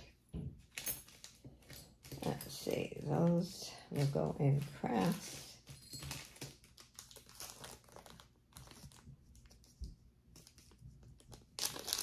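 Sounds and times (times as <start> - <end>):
plastic packaging crinkling: 0.6 - 12.0.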